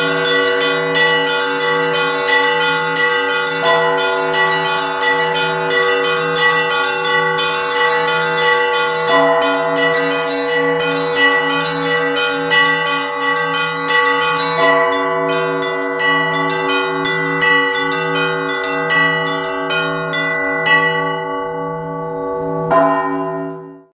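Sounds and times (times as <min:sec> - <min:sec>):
low church bell strikes: 0:00.0 - 0:23.9.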